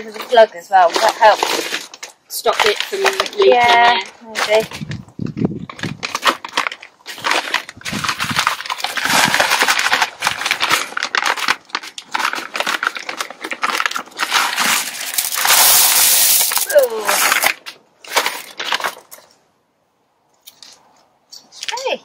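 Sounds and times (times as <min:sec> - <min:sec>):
gravel crunching: 0:00.0 - 0:19.3
plastic bag crinkling: 0:00.0 - 0:19.4.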